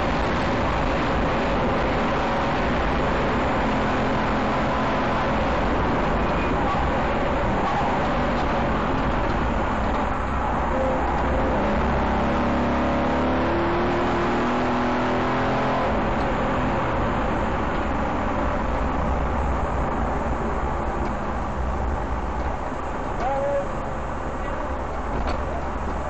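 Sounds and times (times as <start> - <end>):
car engine revving: 0.0 - 23.2
road and tyre noise: 0.0 - 26.0.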